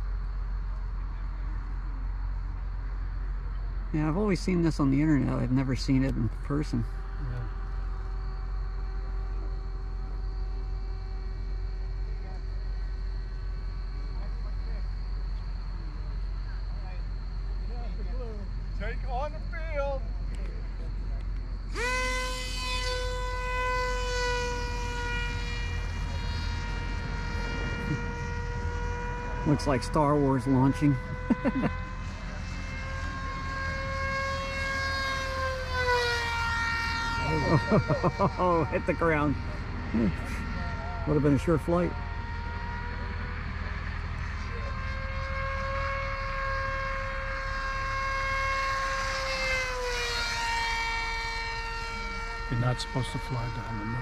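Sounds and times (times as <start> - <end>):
model airplane motor whining: 4.3 - 16.4, 17.6 - 54.0.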